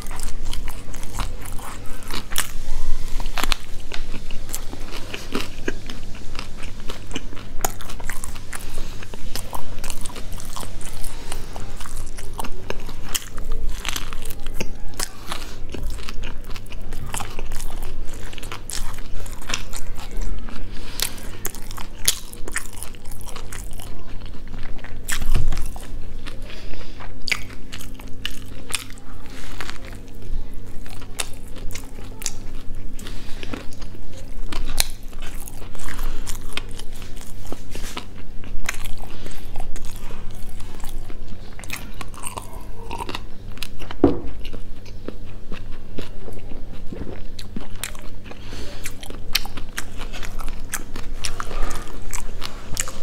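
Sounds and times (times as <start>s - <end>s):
biting and chewing food: 0.0s - 53.0s.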